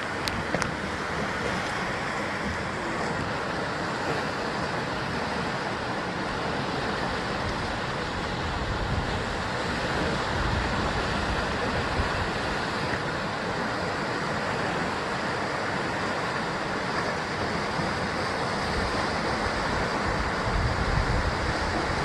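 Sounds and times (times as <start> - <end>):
surf washing against rocks: 0.0 - 22.0.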